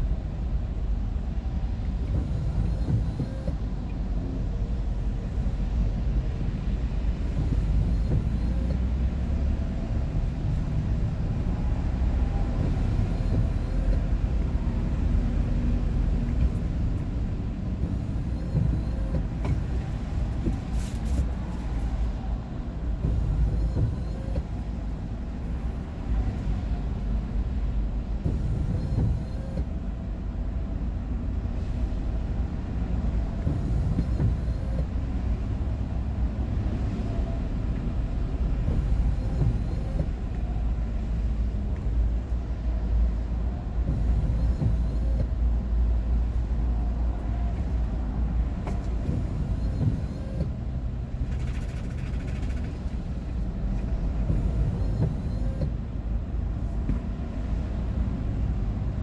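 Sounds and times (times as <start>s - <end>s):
engine and road noise rumble: 0.0s - 59.0s.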